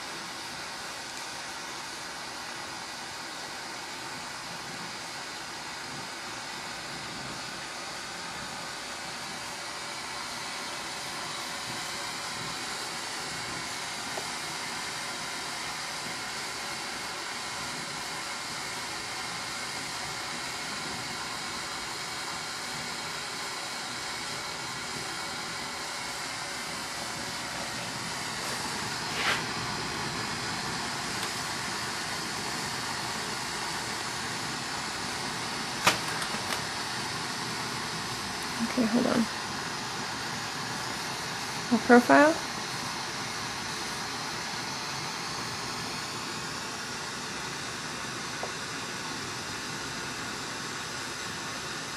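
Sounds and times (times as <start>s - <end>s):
torch flame hissing: 0.0s - 51.9s.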